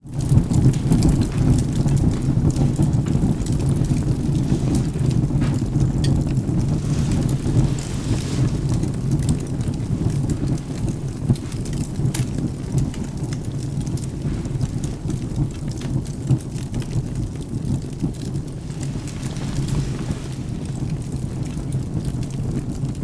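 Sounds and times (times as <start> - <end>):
low thunder rumble: 0.0 - 23.0
steady rain: 0.0 - 23.0
wood fire crackling and popping: 0.0 - 23.0.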